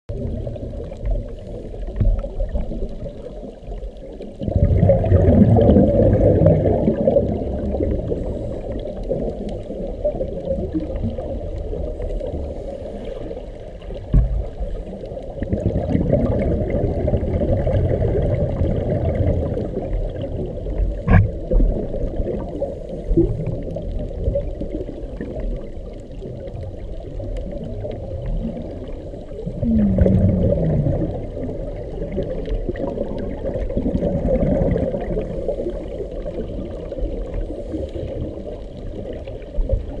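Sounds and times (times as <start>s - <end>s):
underwater air bubbles gurgling: 0.1s - 40.0s.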